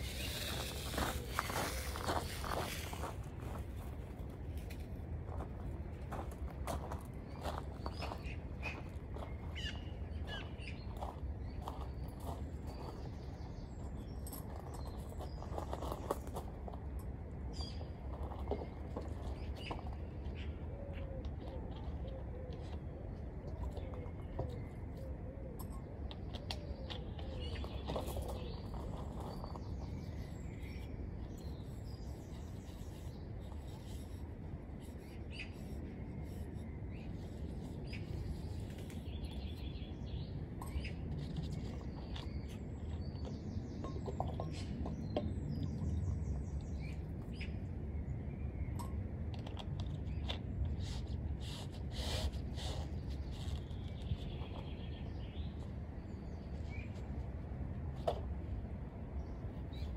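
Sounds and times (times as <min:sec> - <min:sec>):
birds chirping: 0:00.0 - 0:03.9, 0:06.1 - 0:16.5, 0:17.6 - 0:51.2, 0:51.9 - 0:57.2.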